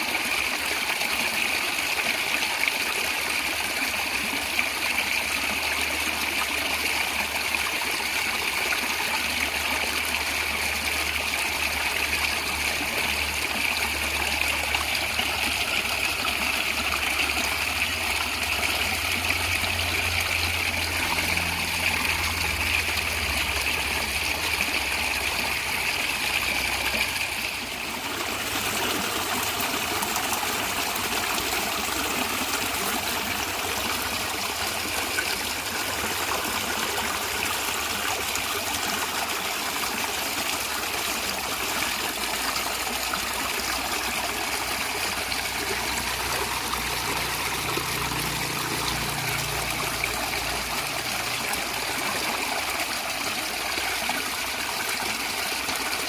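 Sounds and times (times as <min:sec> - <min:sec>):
stream flowing and gurgling: 0:00.0 - 0:56.0.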